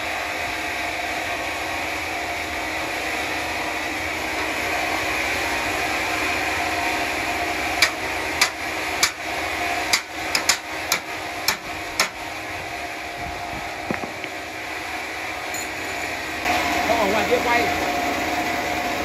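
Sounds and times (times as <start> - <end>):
sawmill machinery hum: 0.0 - 19.0.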